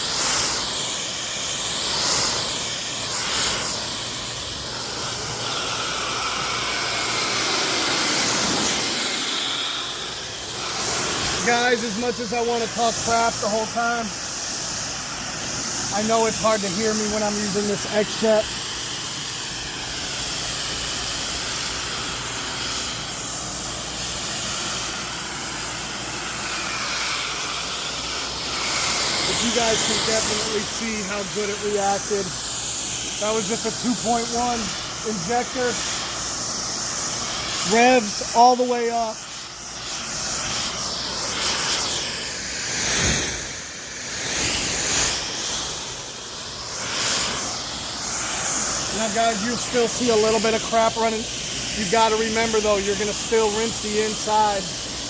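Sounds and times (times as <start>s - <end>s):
pressure washer water spray hiss: 0.0s - 55.0s.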